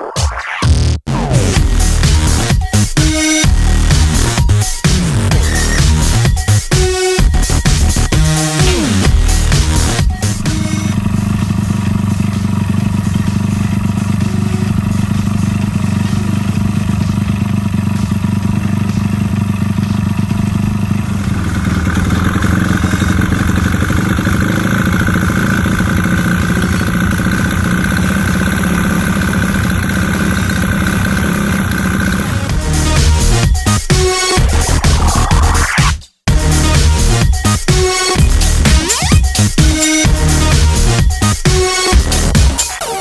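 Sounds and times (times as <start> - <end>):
high whine: 0.0 - 17.8, 21.0 - 27.3, 31.8 - 42.4
motorcycle engine running: 1.4 - 42.9.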